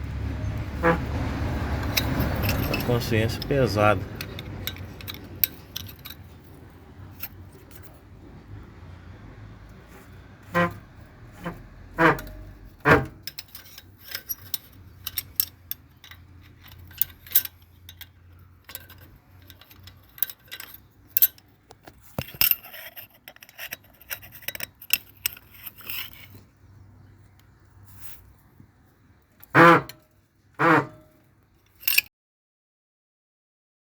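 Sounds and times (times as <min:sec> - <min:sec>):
metal parts clicking and clinking: 0:00.8 - 0:08.0, 0:09.9 - 0:28.5, 0:29.3 - 0:32.1.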